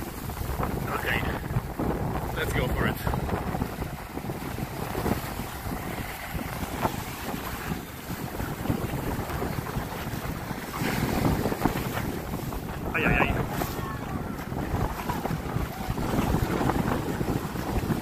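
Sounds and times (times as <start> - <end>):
surf breaking on shore: 0.0 - 18.0
wind buffeting microphone: 0.0 - 18.0.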